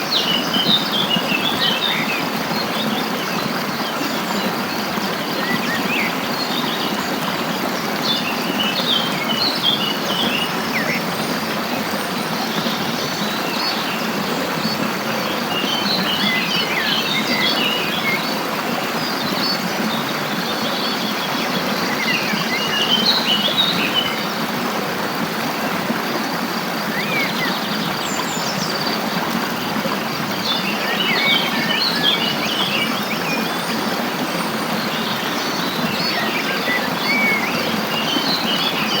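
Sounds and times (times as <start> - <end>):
stream water flowing: 0.0 - 39.0.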